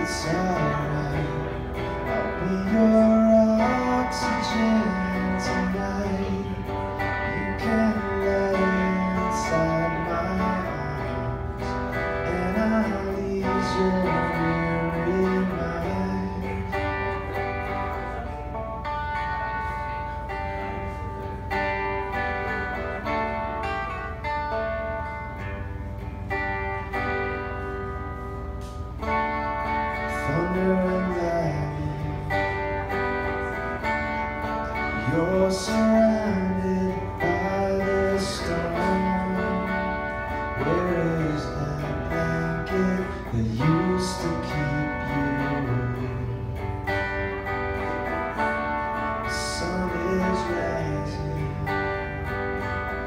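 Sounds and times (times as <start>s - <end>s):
man singing: 0.0s - 18.8s, 29.0s - 53.0s
electric guitar through small amp: 0.0s - 53.0s.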